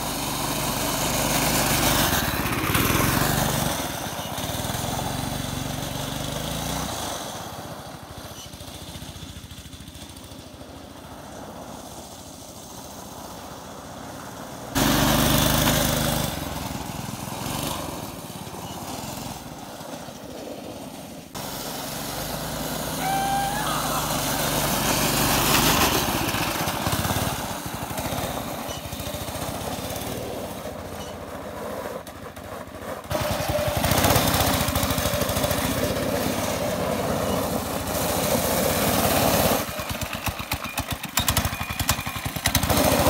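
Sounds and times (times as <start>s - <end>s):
go-kart engine running hard: 0.0s - 43.0s.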